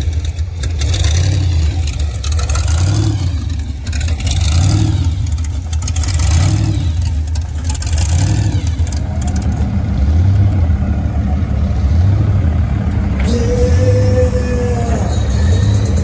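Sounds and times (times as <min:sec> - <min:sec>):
hot rod engine rumbling past: 0:00.0 - 0:16.0
pickup engine drone: 0:00.0 - 0:16.0.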